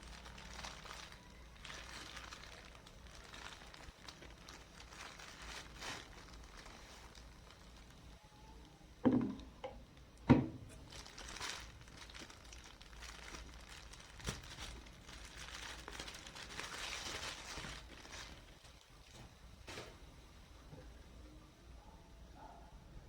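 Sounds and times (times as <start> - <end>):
packaging crinkling and rustling: 0.0 - 9.5, 10.7 - 20.1.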